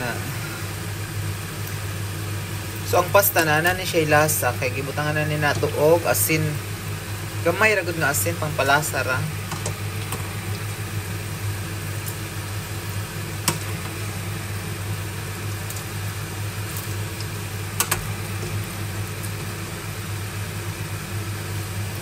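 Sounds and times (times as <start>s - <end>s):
kitchen appliance humming: 0.0s - 22.0s.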